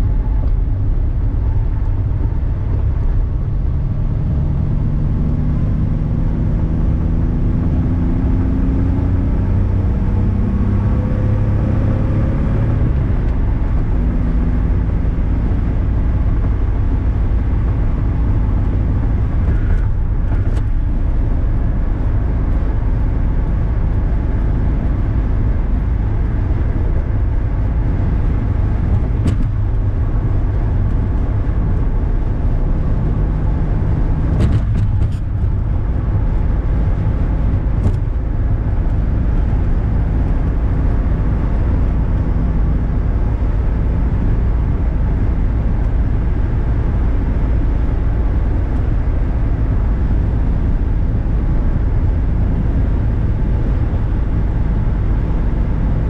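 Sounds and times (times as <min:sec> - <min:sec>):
car engine drone: 0:00.0 - 0:56.0
tyre and wind noise: 0:00.0 - 0:56.0.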